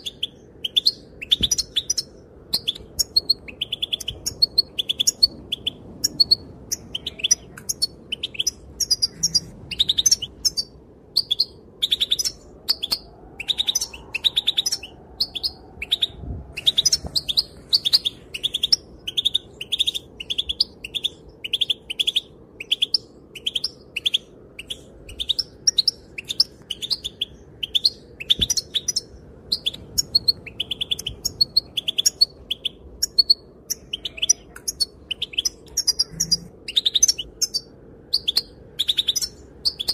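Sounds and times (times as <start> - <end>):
goldfinch chirping calls: 0.0 - 39.9.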